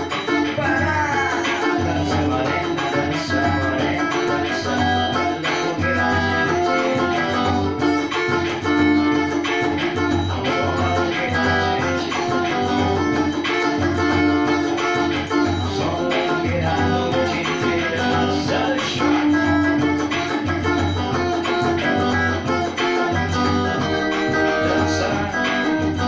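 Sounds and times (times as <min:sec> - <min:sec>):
guitar melody: 0:00.0 - 0:26.0.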